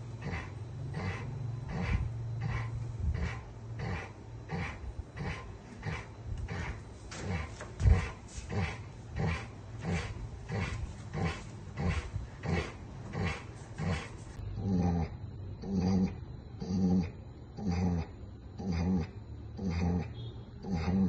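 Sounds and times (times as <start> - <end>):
dog groaning with laboured breaths: 0.0 - 21.0.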